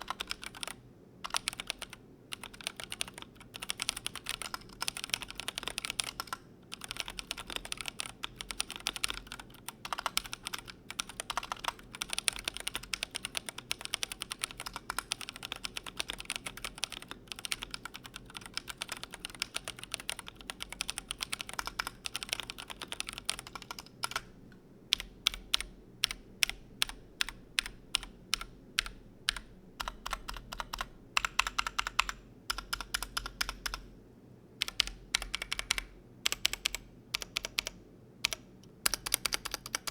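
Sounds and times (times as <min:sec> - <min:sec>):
mechanical keyboard typing: 0:00.0 - 0:24.3, 0:24.9 - 0:33.9, 0:34.6 - 0:39.9.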